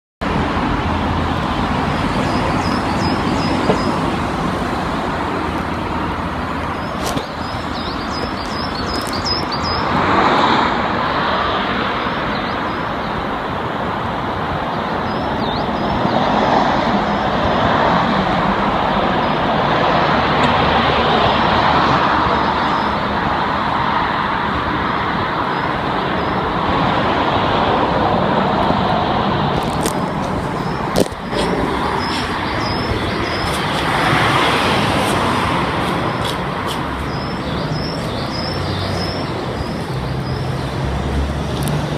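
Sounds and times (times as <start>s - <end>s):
road traffic: 0.2s - 41.9s.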